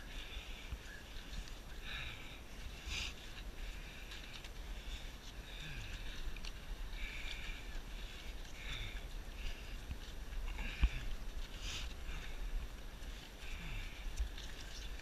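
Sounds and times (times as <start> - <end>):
person breathing: 0.0 - 14.8.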